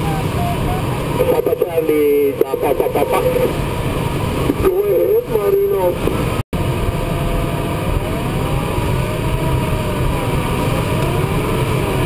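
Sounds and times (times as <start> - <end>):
airflow rushing in cockpit: 0.0 - 12.0.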